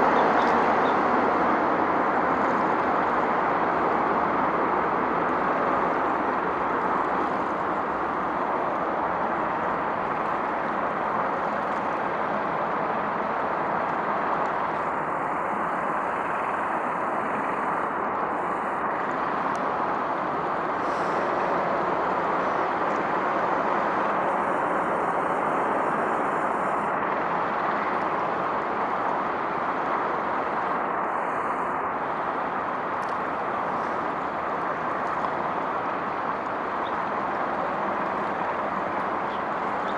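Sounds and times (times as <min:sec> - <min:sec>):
distant road traffic: 0:00.0 - 0:39.9.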